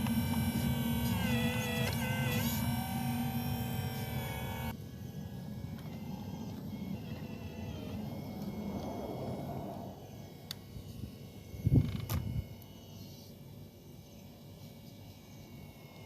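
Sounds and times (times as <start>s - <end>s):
toy truck motor rumble: 0.0s - 13.5s.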